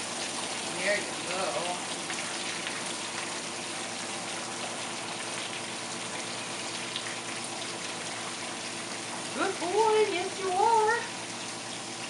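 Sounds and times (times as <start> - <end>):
water spraying over dog's coat: 0.0 - 11.6.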